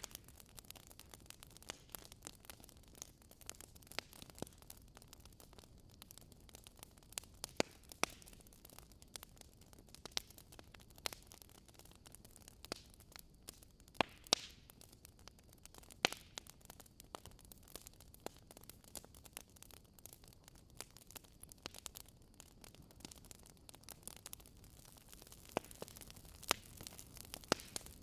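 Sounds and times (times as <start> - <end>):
faint hiss: 0.0 - 28.0
loud fire pops: 0.0 - 28.0
wood fire crackling: 0.0 - 28.0.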